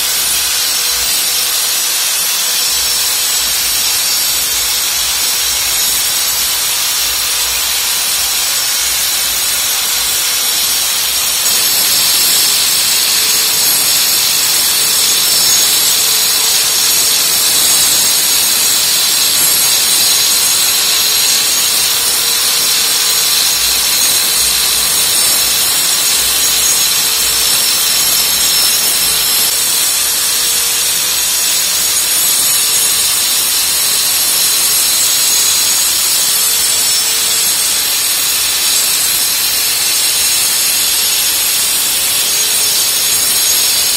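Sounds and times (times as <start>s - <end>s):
angle grinder cutting masonry: 0.0s - 43.9s.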